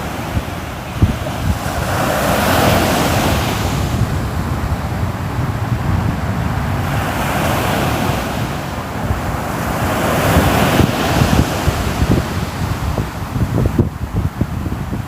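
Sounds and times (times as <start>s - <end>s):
ocean waves breaking on shore: 0.0s - 15.0s
wind buffeting microphone: 0.0s - 15.0s.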